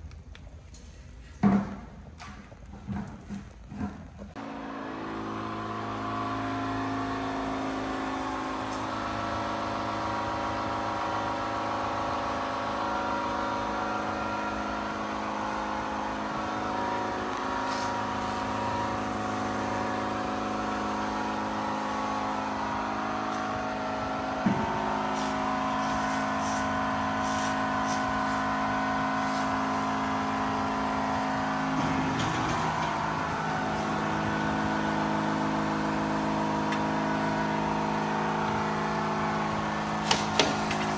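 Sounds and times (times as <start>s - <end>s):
machine hum: 2.7s - 40.9s
pressure washer spraying water: 4.5s - 40.9s.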